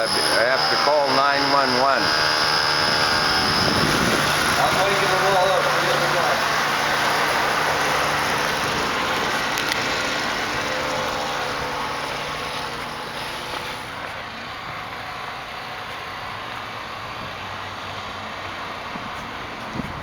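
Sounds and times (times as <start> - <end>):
rushing vehicle noise: 1.8 - 20.0.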